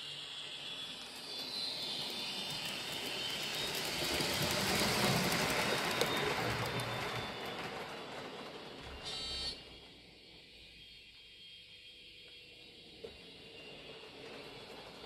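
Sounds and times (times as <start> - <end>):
model electric locomotive running: 0.0 - 15.0.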